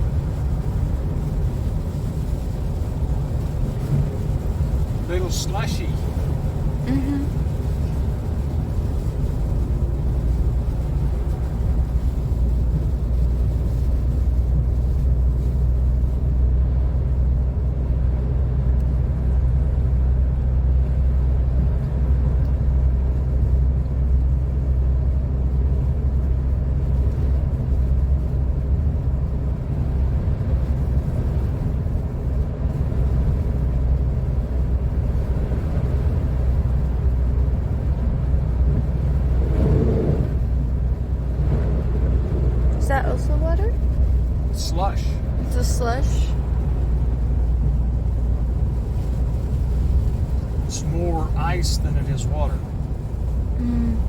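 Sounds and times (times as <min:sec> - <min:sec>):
car driving on slushy road: 0:00.0 - 0:54.0.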